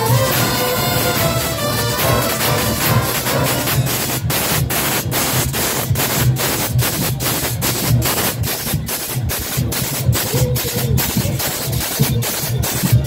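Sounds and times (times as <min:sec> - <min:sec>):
drums pounding: 0:00.0 - 0:13.0.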